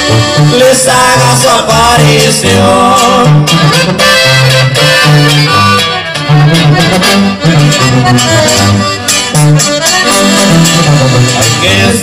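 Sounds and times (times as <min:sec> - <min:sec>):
accordion melody: 0:00.0 - 0:12.0
bass line: 0:00.0 - 0:12.0.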